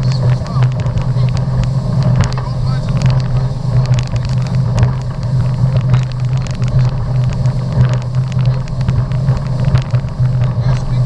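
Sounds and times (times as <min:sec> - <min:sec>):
knocks and buffets: 0:00.0 - 0:11.0
motorboat engine droning: 0:00.0 - 0:11.0.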